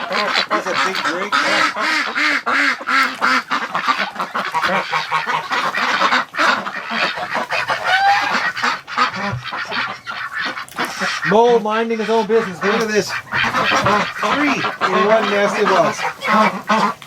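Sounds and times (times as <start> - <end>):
ducks quacking: 0.0 - 17.0
geese honking: 0.0 - 17.0.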